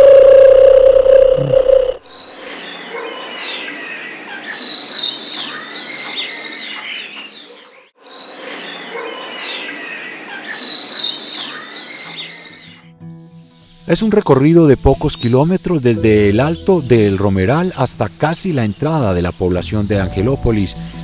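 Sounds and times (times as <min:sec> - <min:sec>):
forest birds chirping and whistling: 0:00.0 - 0:13.8, 0:15.1 - 0:21.0.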